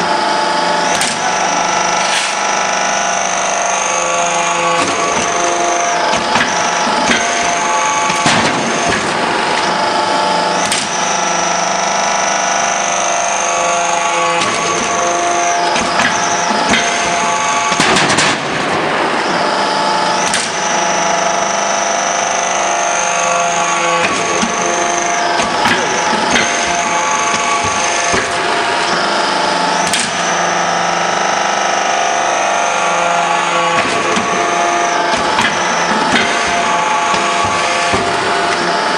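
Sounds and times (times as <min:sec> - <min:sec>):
high whine: 0:00.0 - 0:38.9
hydraulic press humming and whining: 0:00.0 - 0:38.9.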